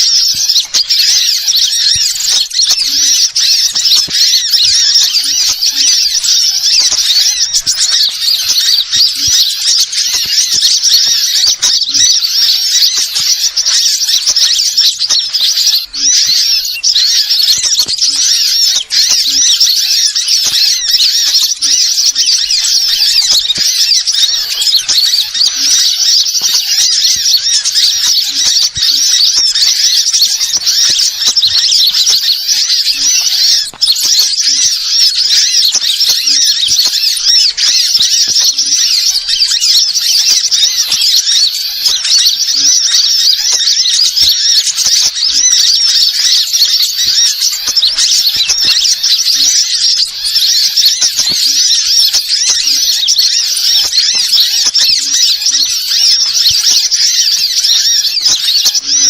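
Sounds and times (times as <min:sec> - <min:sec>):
small birds chattering and chirping: 0:00.0 - 0:59.0.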